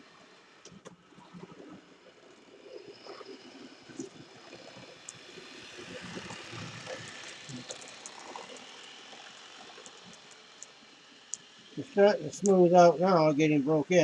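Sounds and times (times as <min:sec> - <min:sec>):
model train motor whirring: 0:00.0 - 0:14.0.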